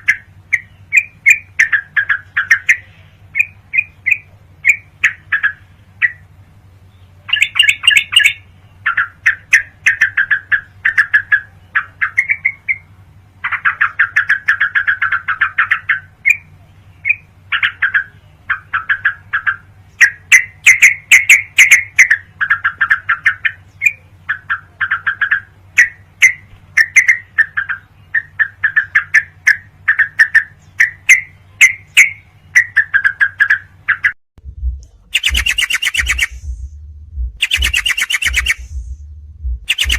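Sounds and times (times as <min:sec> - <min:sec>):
bulbul chattering song: 0:00.0 - 0:39.9
steady low hum: 0:00.0 - 0:39.9.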